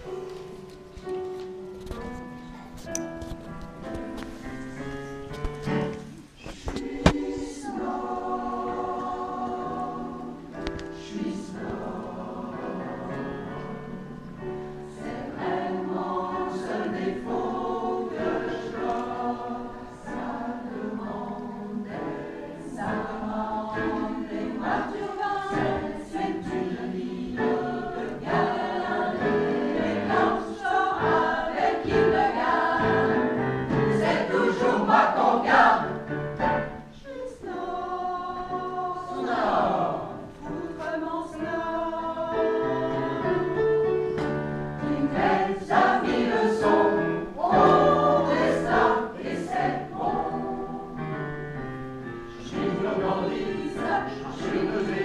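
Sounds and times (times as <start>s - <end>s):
choir singing: 6.4s - 55.0s.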